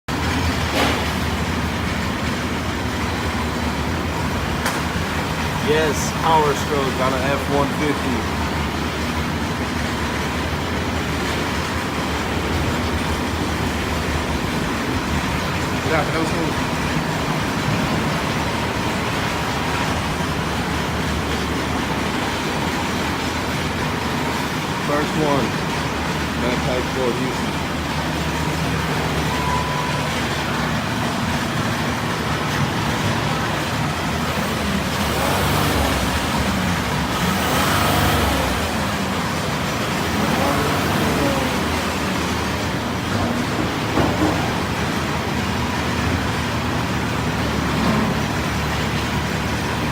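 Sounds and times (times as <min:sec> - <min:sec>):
diesel engine idling: 0:00.1 - 0:49.9.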